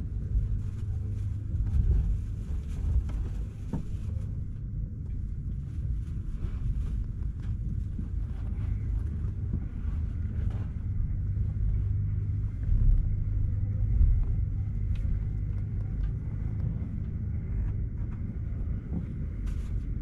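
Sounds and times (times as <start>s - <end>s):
train cabin rumble: 0.0s - 20.0s.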